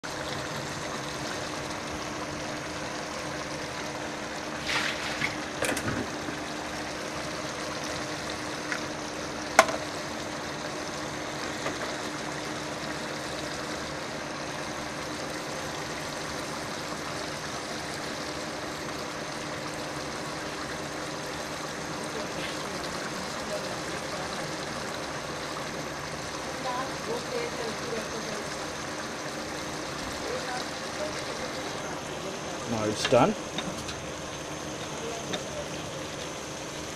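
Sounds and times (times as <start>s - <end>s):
curry bubbling in a pot: 0.0s - 36.9s.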